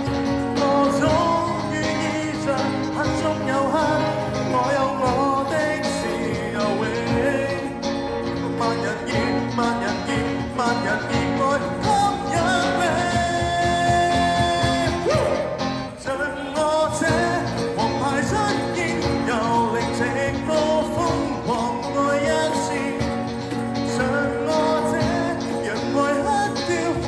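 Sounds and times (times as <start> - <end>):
band playing rock instrumental: 0.0 - 16.0, 16.7 - 27.0
lead line holding long notes: 0.0 - 27.0.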